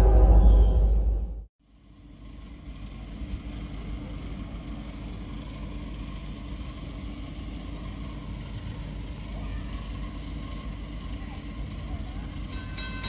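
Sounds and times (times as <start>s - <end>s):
diesel locomotive engines rumbling: 0.0s - 1.4s, 2.0s - 13.0s.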